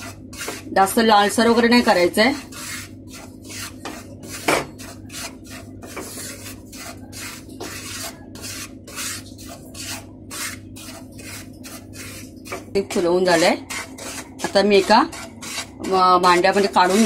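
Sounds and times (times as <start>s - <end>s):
spatula scraping semolina in pan: 0.0s - 17.0s.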